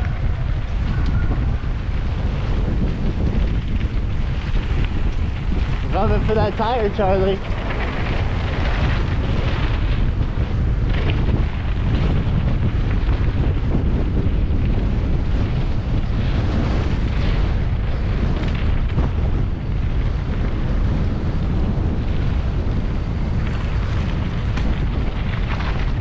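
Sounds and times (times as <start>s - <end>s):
bike rattles and clicks: 0.0s - 26.0s
tyres rumbling over dirt: 0.0s - 26.0s
wind rushing over microphone: 0.0s - 26.0s.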